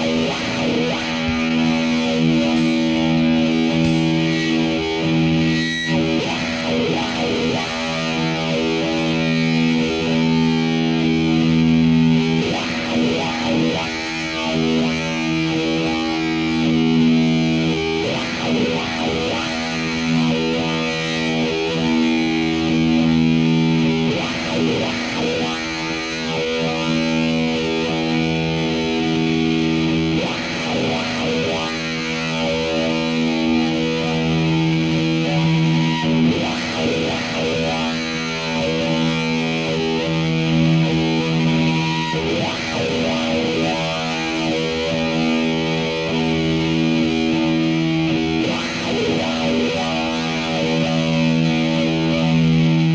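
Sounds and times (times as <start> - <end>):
distorted electric guitar chords: 0.0 - 52.9.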